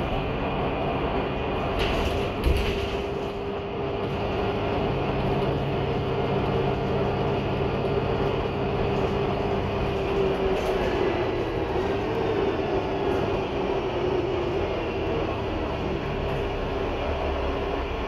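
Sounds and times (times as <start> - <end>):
bus engine and road noise: 0.0 - 18.0
steady whine: 0.0 - 18.0.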